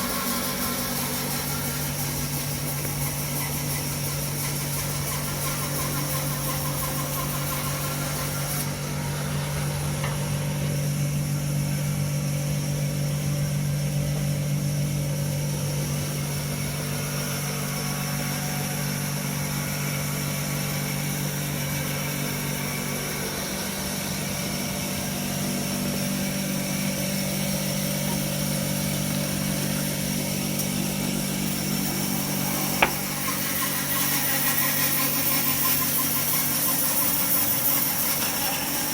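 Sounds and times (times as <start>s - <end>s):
power saw cutting wood: 0.0s - 10.8s, 15.9s - 38.9s.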